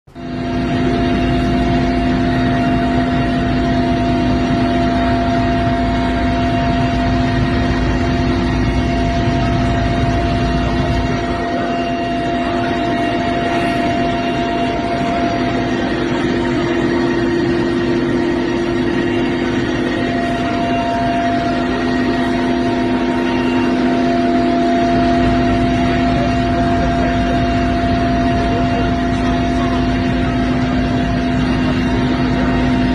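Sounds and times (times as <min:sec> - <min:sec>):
helicopter engine and rotor drone: 0:00.1 - 0:32.9.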